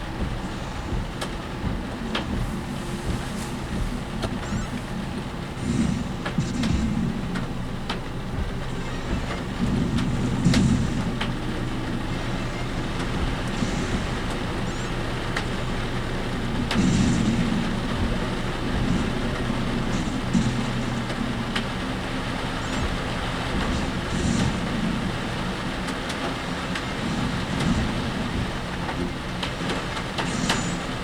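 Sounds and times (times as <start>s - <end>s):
cab rattling with clicks: 0.0s - 31.0s
engine and road noise: 0.0s - 31.0s.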